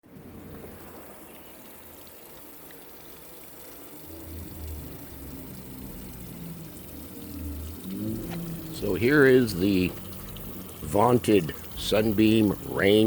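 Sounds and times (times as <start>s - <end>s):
low hum: 0.0s - 13.0s
sprinkler spraying water: 0.0s - 13.0s.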